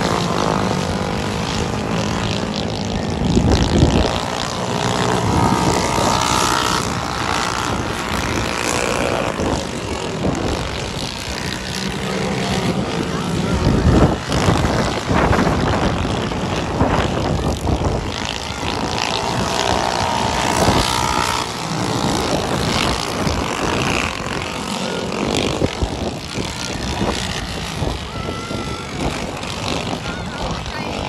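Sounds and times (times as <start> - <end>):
kart engines passing: 0.0 - 31.0.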